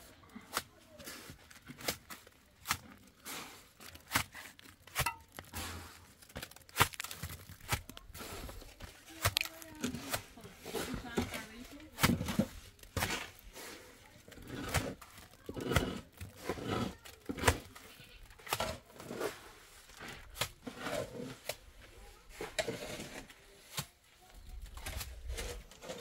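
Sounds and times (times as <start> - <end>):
rustling: 1.1 - 26.0.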